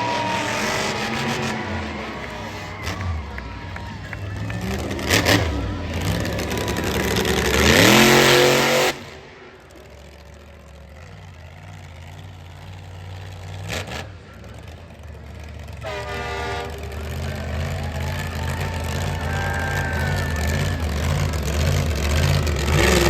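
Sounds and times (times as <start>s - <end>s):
monster truck engine revving: 0.0s - 23.0s.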